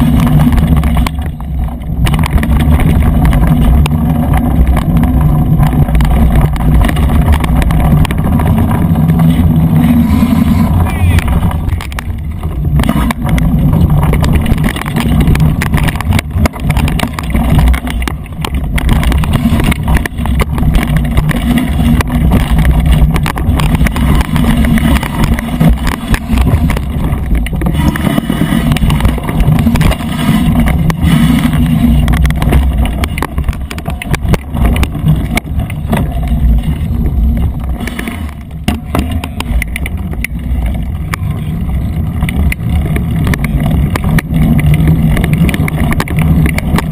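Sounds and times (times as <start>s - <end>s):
bike knocks and rattles: 0.0s - 46.9s
continuous low rumble: 0.0s - 46.9s.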